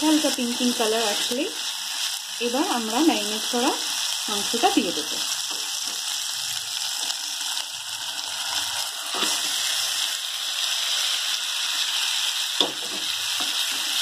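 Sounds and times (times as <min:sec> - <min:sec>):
oil and onions sizzling: 0:00.0 - 0:14.0.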